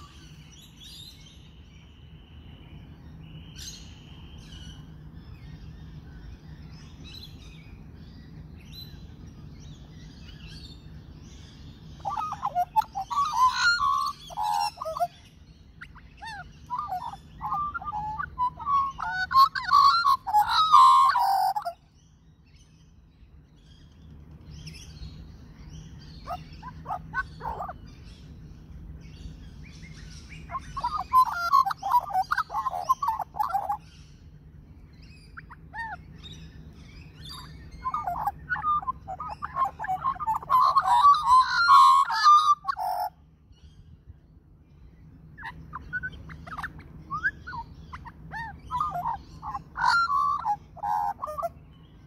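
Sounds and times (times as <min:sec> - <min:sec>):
magpie warbling song: 0:00.0 - 0:01.6, 0:08.2 - 0:22.9, 0:23.6 - 0:43.9, 0:45.2 - 0:52.0
faint low rumble: 0:00.0 - 0:52.0.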